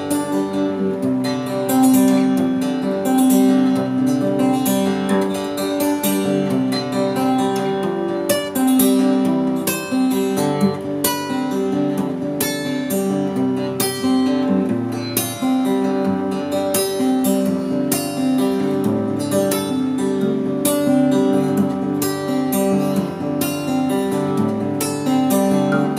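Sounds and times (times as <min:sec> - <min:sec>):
acoustic guitar plucked notes: 0:00.0 - 0:25.9.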